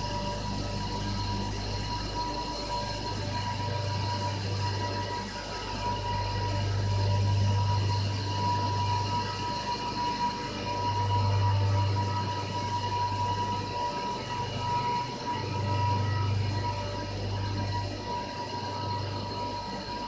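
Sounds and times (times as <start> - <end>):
thin high whine: 0.0 - 20.0.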